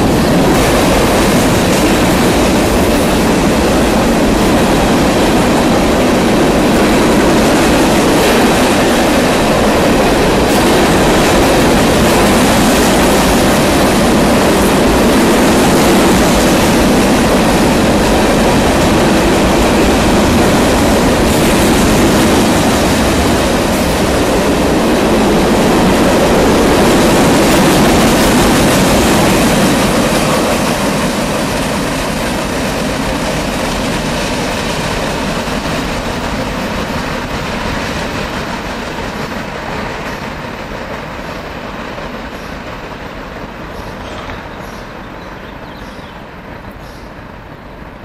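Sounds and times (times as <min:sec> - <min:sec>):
train wheels rolling on rails: 0:00.0 - 0:48.0.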